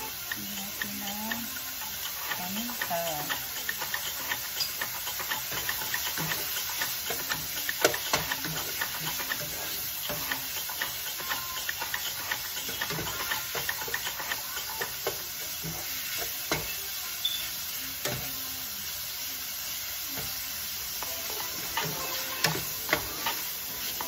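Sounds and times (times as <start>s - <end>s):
meat and onions sizzling: 0.0s - 24.0s
spatula clicking against pan: 0.2s - 16.7s, 21.0s - 24.0s
spatula scraping pan: 0.4s - 16.8s, 20.2s - 24.0s.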